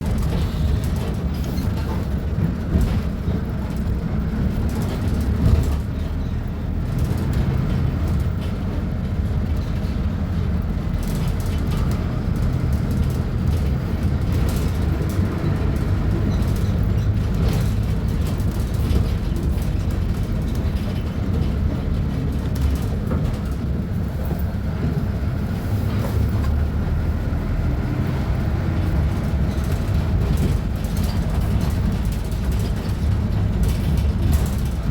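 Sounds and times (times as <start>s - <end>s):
bus diesel engine drone: 0.0s - 34.9s.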